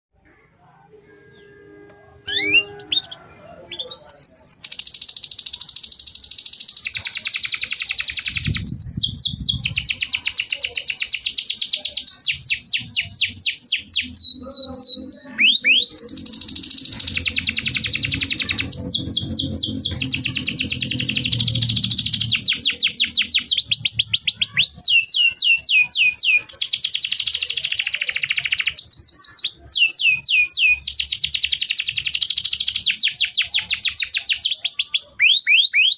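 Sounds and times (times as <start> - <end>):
canary singing trills: 1.1 - 35.9.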